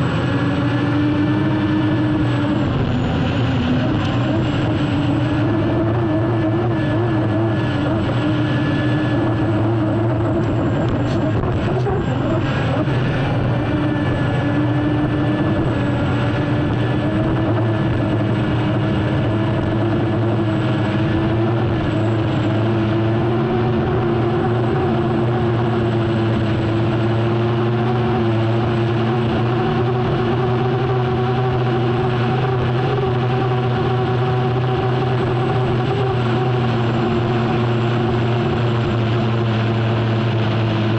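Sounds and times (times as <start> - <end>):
high steady whine: 0.0 - 40.9
turbine engine running: 0.0 - 40.9.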